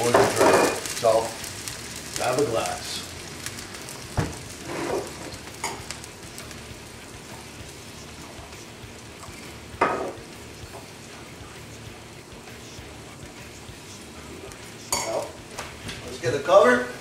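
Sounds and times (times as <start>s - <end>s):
clams sizzling in a pot: 0.0s - 17.0s.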